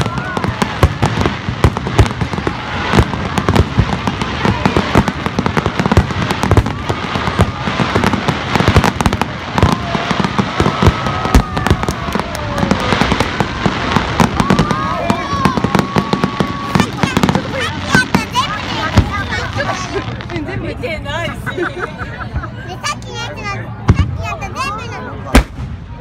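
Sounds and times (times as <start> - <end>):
fireworks bangs and crackles: 0.0 - 21.5, 22.2 - 26.0.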